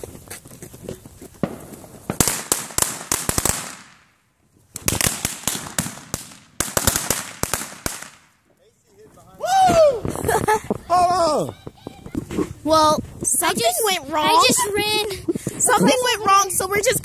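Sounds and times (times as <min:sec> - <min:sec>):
firework popping and crackling: 0:00.0 - 0:16.4.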